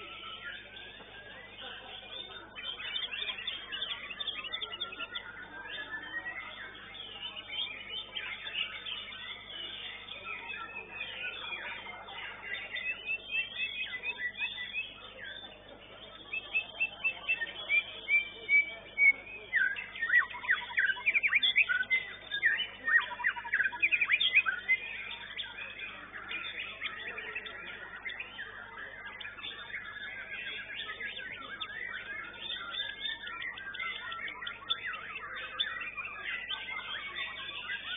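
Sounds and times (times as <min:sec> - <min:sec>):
bird singing chirps and whistles: 0:00.0 - 0:37.9.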